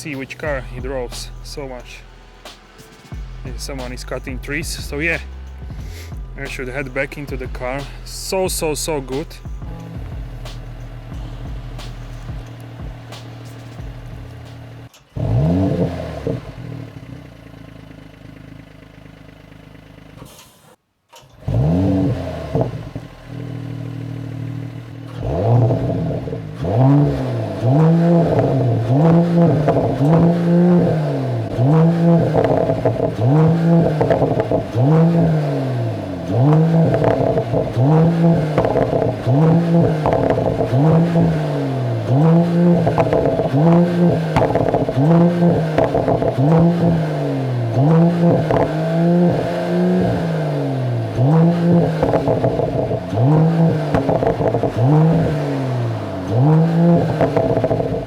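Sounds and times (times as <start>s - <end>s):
car engine revving: 0.0s - 58.0s
exhaust crackles: 0.0s - 58.0s.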